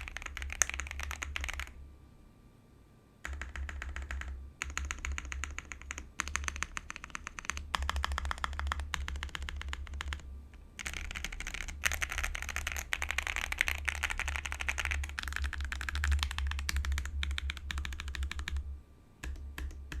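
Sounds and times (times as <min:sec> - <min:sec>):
fast typing on mechanical keyboard: 0:00.0 - 0:01.8, 0:03.2 - 0:10.2, 0:10.8 - 0:18.6.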